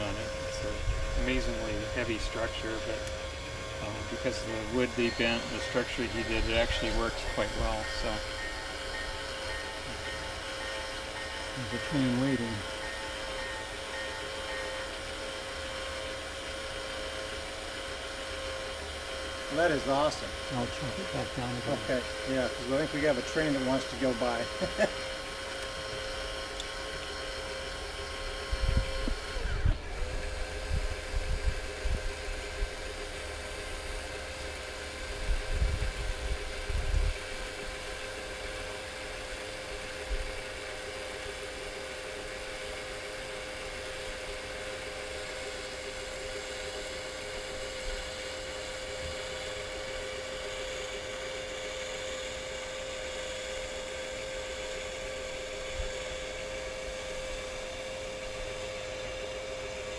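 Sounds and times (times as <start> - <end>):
small electric motor whining: 0.0 - 59.9.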